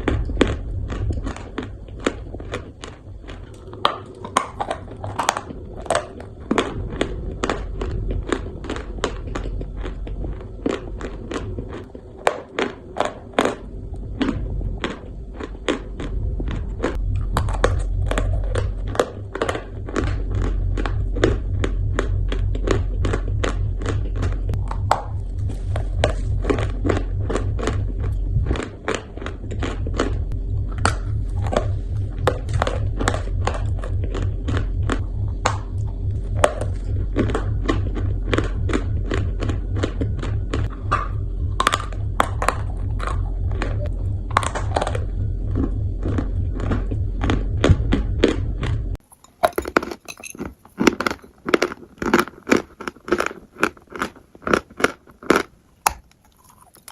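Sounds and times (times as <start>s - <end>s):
low rumble: 0.0s - 50.4s
chewing crunchy food: 0.0s - 56.9s.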